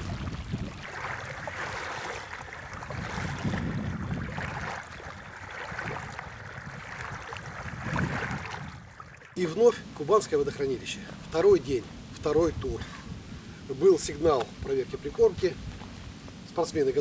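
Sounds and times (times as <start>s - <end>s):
small waves washing onto shore: 0.0s - 16.2s.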